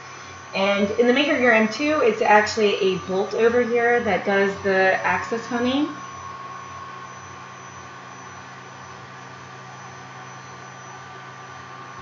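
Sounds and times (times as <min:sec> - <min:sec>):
stepper motor humming: 0:00.0 - 0:12.0.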